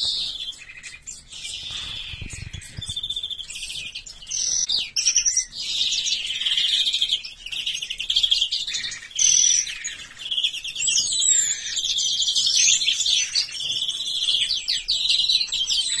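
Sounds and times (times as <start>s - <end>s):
bird twittering trills: 0.0s - 16.0s.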